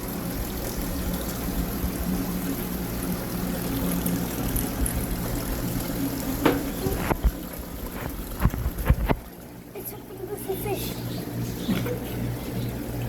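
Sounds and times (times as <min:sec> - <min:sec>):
low pump hum: 0:00.0 - 0:13.0
water trickling and splashing: 0:00.0 - 0:13.0.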